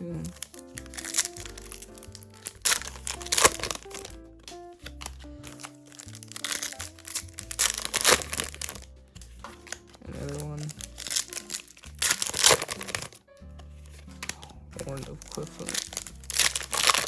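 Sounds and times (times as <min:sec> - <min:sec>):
background music: 0:00.0 - 0:17.0
foil packs crinkling: 0:00.2 - 0:17.0.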